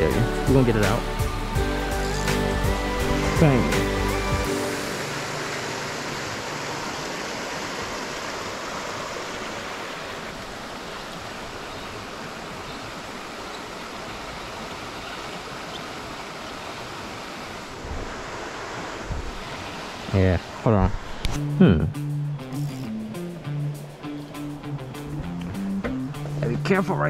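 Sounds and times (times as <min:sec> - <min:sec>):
creek water running over rocks: 0:00.0 - 0:21.9, 0:22.6 - 0:27.0.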